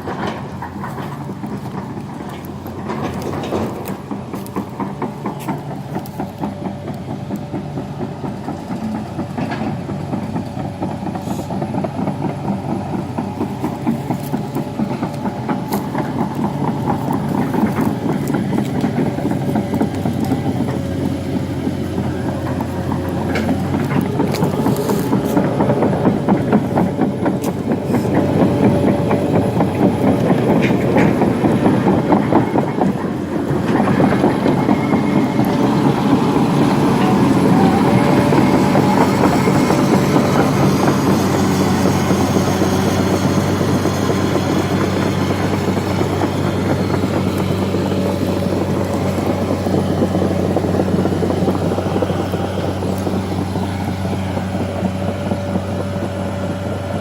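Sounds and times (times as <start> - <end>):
diesel engine running: 0.0 - 57.0
excavator tracks clanking: 0.0 - 57.0.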